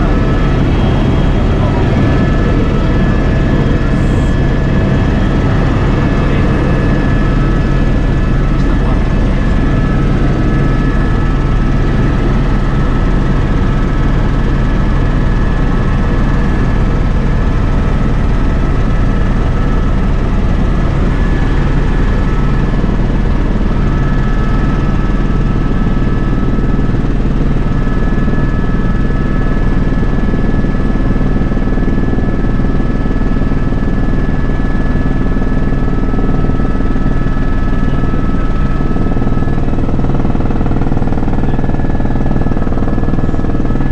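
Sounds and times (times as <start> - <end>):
helicopter rotor and turbine drone: 0.0 - 43.9.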